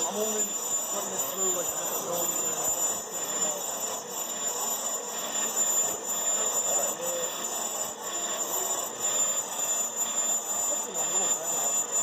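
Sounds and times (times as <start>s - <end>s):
brake lathe cutting: 0.0s - 12.0s
high-pitched whine: 0.0s - 12.0s.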